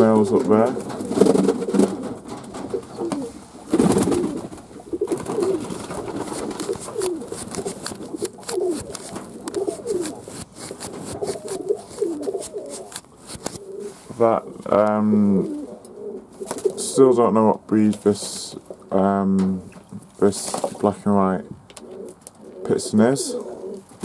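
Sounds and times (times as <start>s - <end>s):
pigeons cooing: 0.2s - 17.2s, 21.7s - 24.0s.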